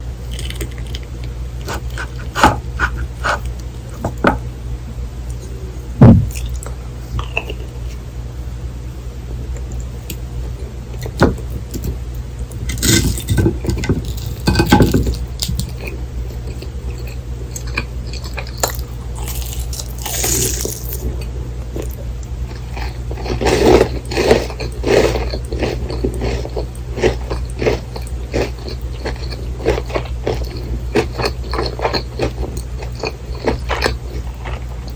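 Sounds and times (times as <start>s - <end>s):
crunchy chewing: 0.2s - 4.2s, 6.2s - 8.0s, 12.6s - 34.9s.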